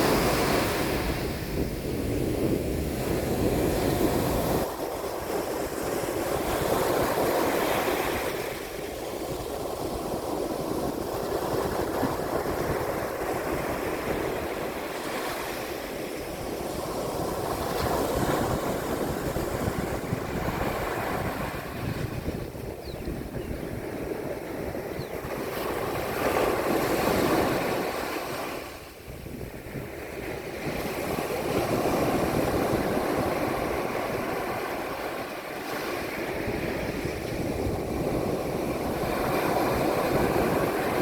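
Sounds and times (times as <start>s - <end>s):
sea waves breaking on a beach: 0.0s - 41.0s
wind rumble on microphone: 0.0s - 41.0s.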